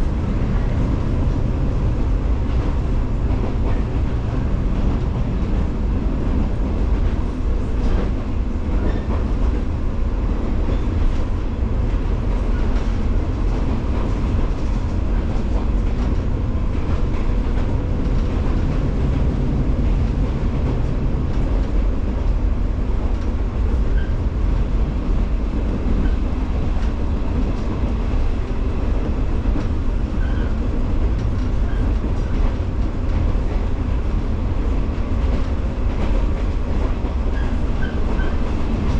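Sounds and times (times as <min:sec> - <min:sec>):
train running gear rumble: 0:00.0 - 0:38.9.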